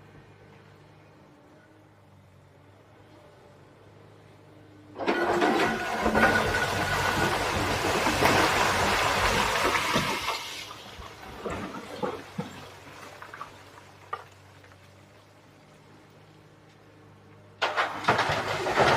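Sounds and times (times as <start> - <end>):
excavator engine running: 0.0 - 18.9.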